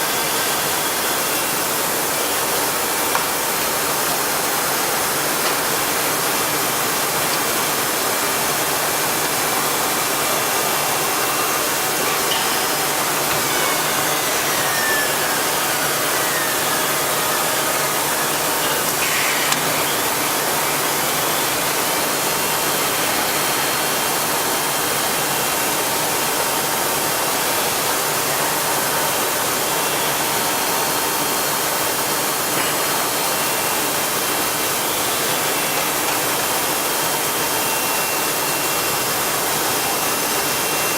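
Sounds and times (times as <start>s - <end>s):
router machine rushing noise: 0.0s - 40.9s
thin steady whining tones: 0.0s - 40.9s.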